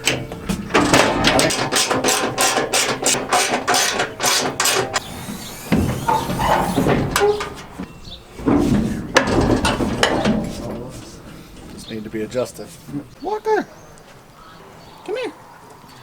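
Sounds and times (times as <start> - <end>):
auger drive clattering: 0.0 - 13.2.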